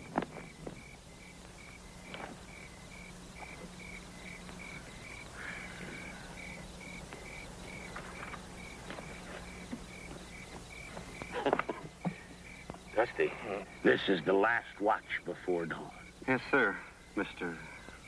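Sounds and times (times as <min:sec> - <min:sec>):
crickets chirping: 0:00.0 - 0:18.0
faint low hum: 0:00.0 - 0:18.0.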